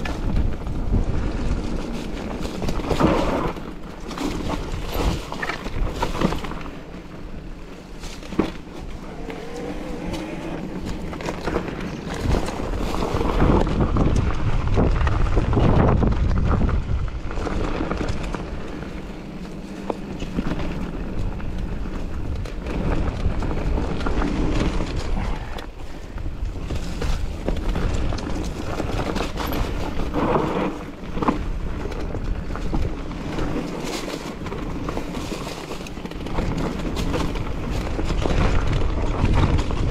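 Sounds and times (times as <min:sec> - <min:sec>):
bike clicks and rattles: 0:00.0 - 0:39.9
tyres rumbling over ground: 0:00.0 - 0:39.9
wind buffeting microphone: 0:00.0 - 0:39.9.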